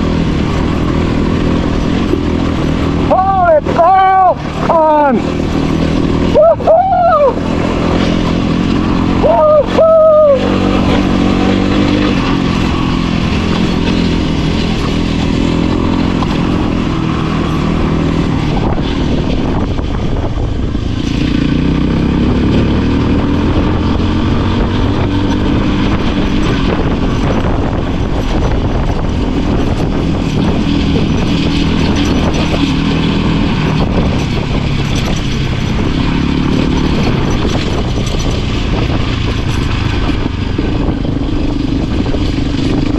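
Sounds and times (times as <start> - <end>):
motorcycle engine revving: 0.0 - 42.9
tyres over loose rocks: 0.0 - 42.9.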